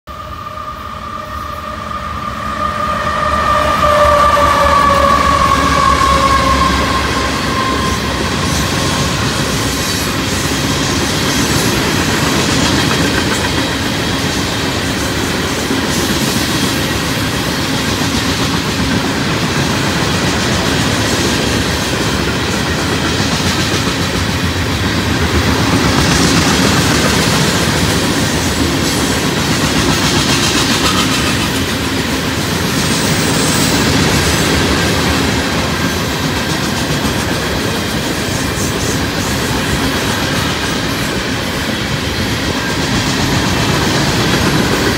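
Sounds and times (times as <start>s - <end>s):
steel wheels on rail: 0.1s - 44.9s.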